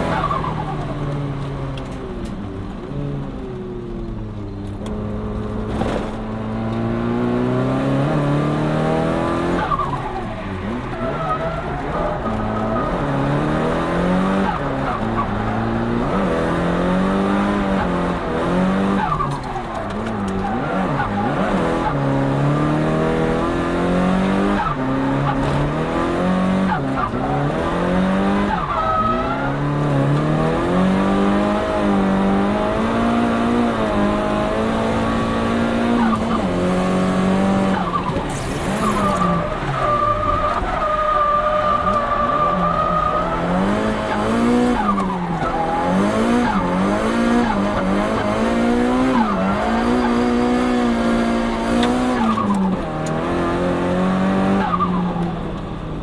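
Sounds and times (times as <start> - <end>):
car engine revving: 0.0 - 56.0
tyres skidding: 0.0 - 56.0.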